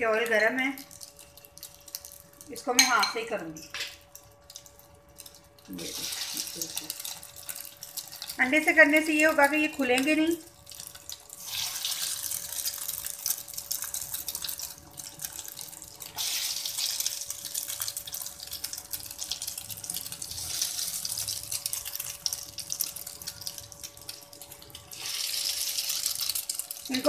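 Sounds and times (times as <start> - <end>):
food deep-frying in hot oil: 0.0 - 27.0.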